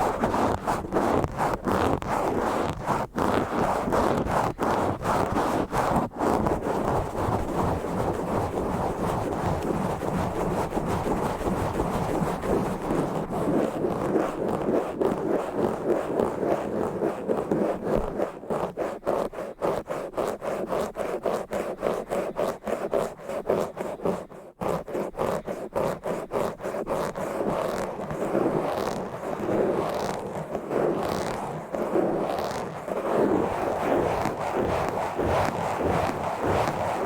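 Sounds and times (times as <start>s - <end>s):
scratching on a microphone: 0.0s - 37.0s.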